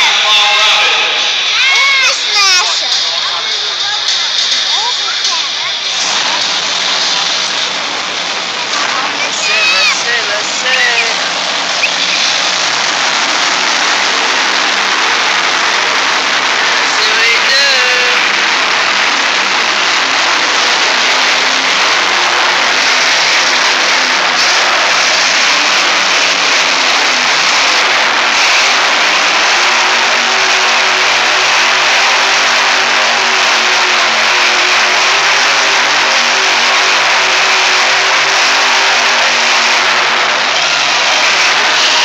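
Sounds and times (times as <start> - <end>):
monster truck engine revving: 0.0 - 42.0.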